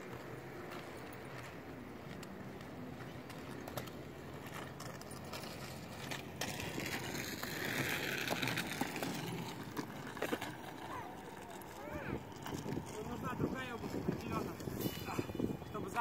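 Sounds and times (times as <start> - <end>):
scooter wheels rumbling on concrete: 0.0 - 16.0.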